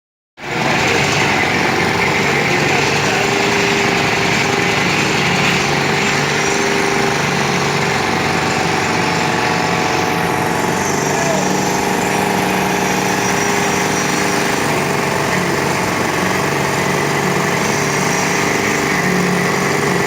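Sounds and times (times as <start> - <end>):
construction machine rattling: 0.4 - 20.0.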